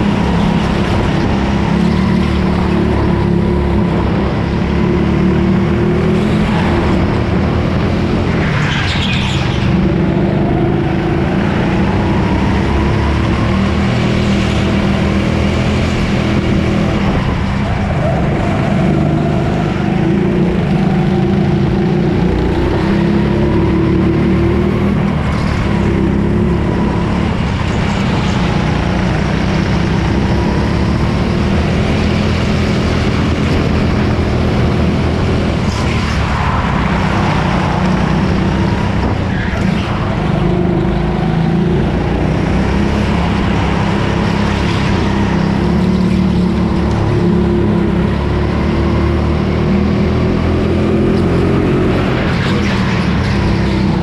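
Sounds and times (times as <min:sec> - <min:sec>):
go-kart motor running hard: 0:00.0 - 0:54.0.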